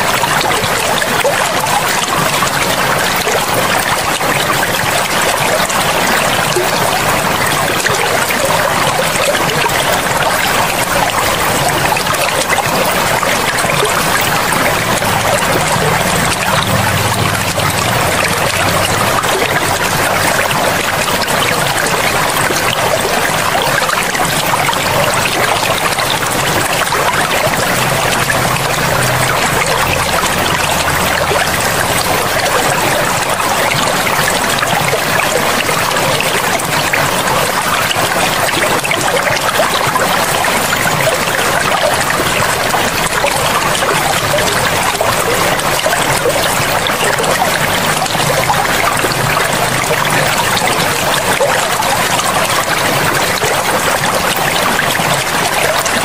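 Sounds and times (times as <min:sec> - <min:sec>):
river rushing and trickling: 0:00.0 - 0:56.0.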